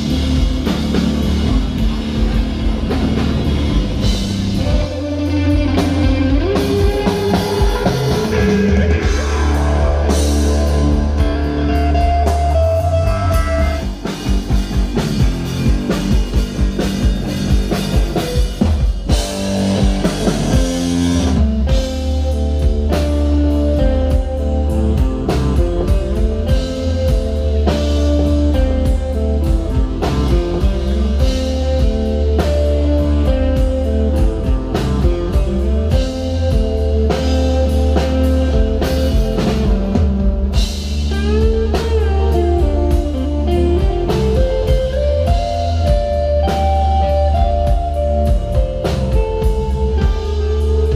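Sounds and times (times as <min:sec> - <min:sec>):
drum kit hits: 0:00.0 - 0:50.9
electric guitar: 0:00.0 - 0:50.9
sustained bass line: 0:00.0 - 0:50.9.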